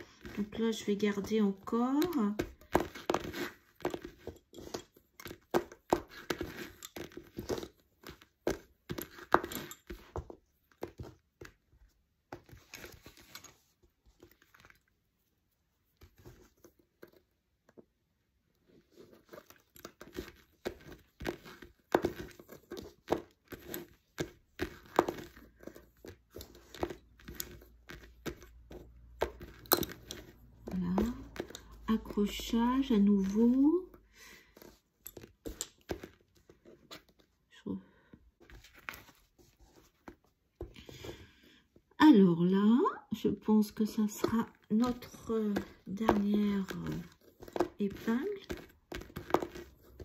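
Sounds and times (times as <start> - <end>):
lace bobbins clicking: 0.0 - 15.0, 18.6 - 37.5, 43.7 - 50.0.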